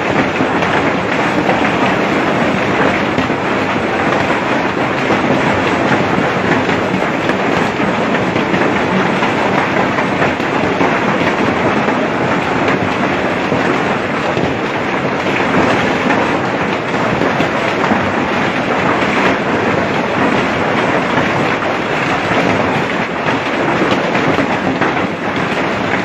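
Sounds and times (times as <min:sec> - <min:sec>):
loud steady rushing noise: 0:00.0 - 0:26.0.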